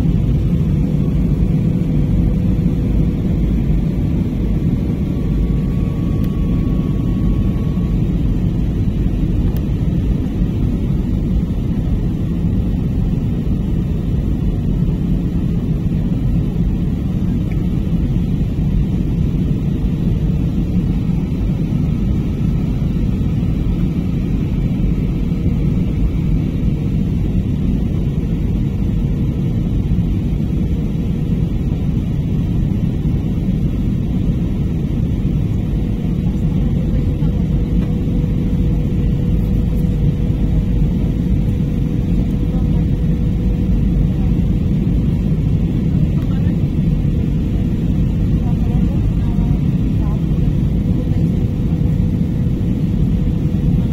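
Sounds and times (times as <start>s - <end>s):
airliner cabin rumble: 0.0s - 53.9s.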